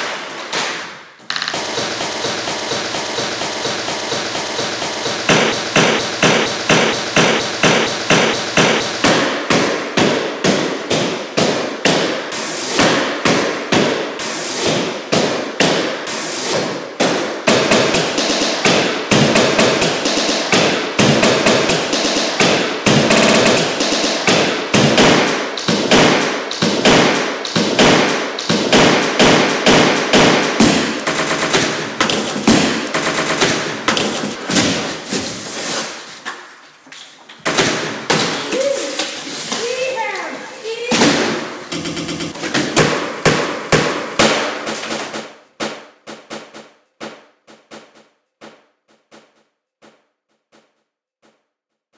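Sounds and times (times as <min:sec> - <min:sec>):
looped beat of hammer blows: 0:00.0 - 0:51.5.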